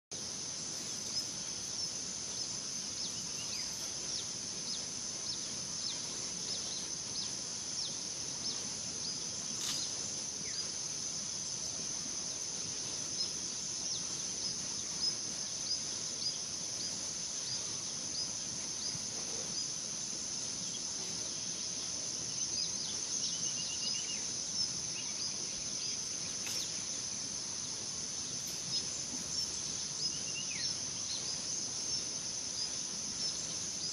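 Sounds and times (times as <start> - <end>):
high insect drone: 0.1 - 33.9.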